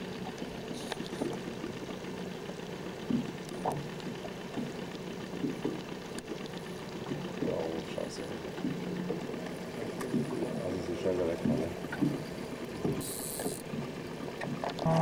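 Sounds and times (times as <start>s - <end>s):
faint steady hum: 0.0s - 15.0s
small waves lapping against a hull: 0.0s - 15.0s.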